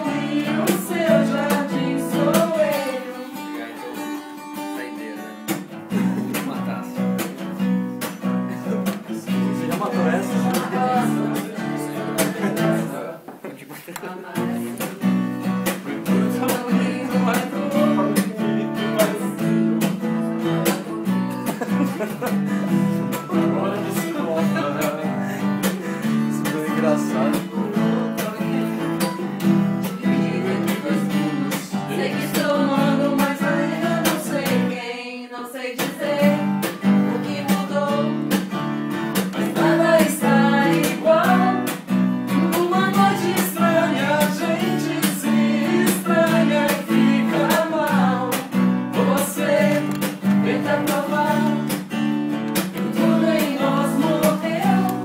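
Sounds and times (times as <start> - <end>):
person singing: 0.0 - 4.2, 8.5 - 13.0, 15.7 - 19.6, 20.4 - 38.4, 39.3 - 51.8, 53.0 - 55.0
acoustic guitar strumming: 0.0 - 13.3, 14.1 - 55.0.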